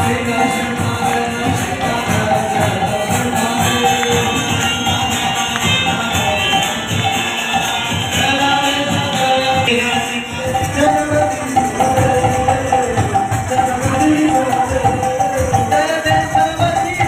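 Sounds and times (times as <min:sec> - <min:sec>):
devotional singing: 0:00.0 - 0:17.0
jingling hand percussion: 0:00.0 - 0:17.0
steady drum beat: 0:00.0 - 0:17.0.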